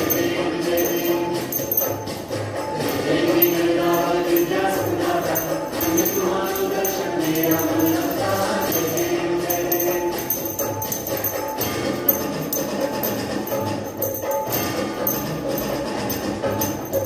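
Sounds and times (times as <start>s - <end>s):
person singing devotional melody: 0.0s - 14.3s
jingling bells: 0.0s - 17.0s
small percussion: 0.0s - 17.0s.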